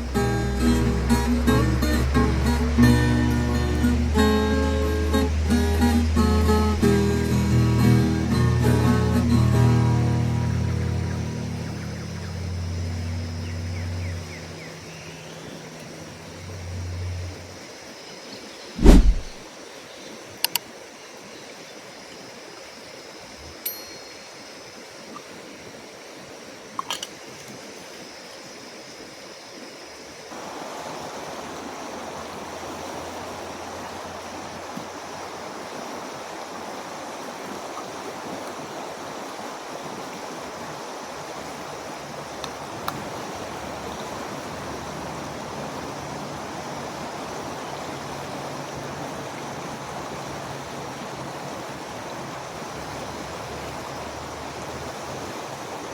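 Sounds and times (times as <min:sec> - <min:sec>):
creek water rushing: 0:00.0 - 0:23.4, 0:30.1 - 0:55.9.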